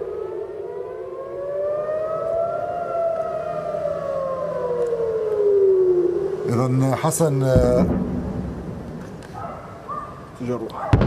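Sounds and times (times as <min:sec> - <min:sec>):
air-raid sirens wailing: 0:00.0 - 0:11.0.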